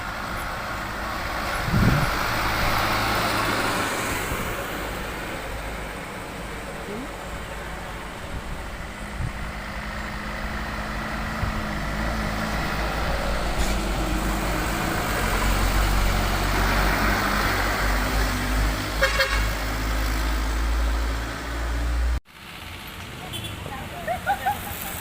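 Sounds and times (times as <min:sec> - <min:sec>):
truck diesel engine labouring: 0:00.0 - 0:25.0.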